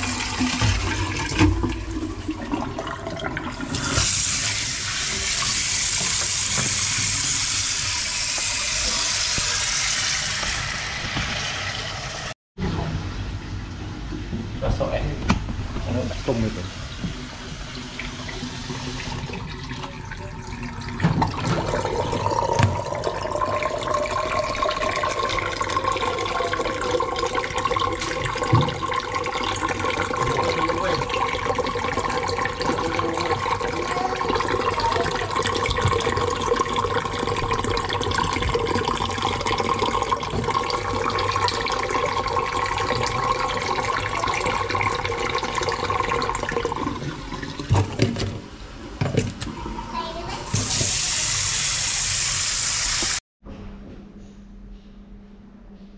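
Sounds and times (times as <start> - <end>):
water rushing down sink drain: 0.0 - 12.9, 15.8 - 48.5, 49.1 - 53.2.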